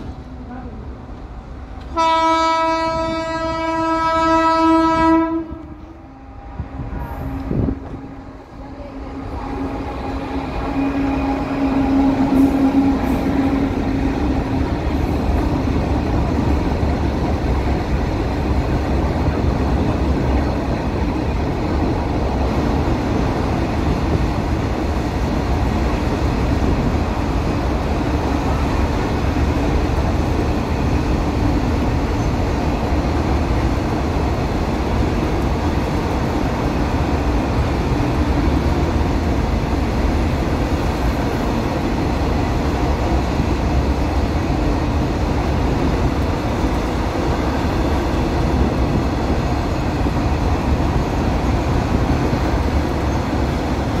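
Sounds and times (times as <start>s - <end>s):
freight train rolling past: 0.0s - 54.0s
steel wheels rumbling on rails: 0.0s - 54.0s.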